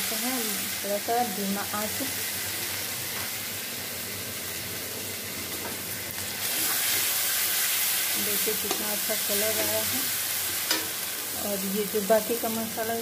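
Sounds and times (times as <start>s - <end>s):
paste sizzling in oil: 0.0s - 13.0s.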